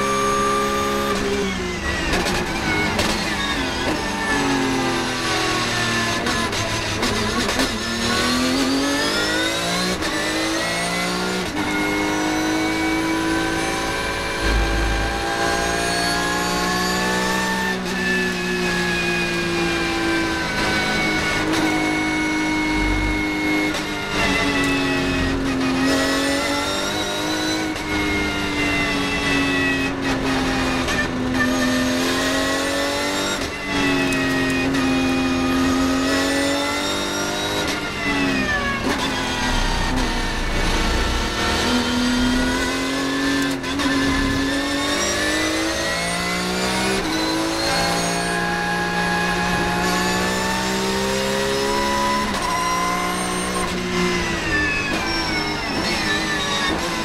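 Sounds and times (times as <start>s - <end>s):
racing car engine at full throttle: 0.0s - 57.0s.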